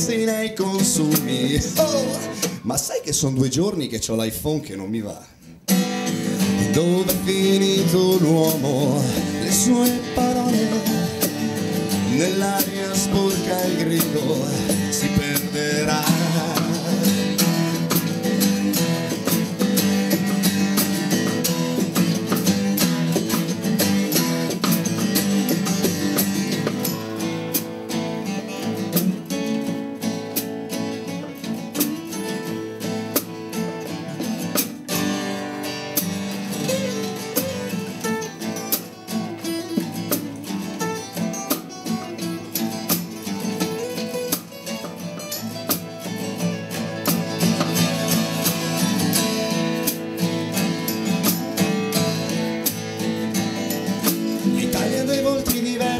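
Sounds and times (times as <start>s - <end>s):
acoustic guitars strumming and picking: 0.0s - 55.9s.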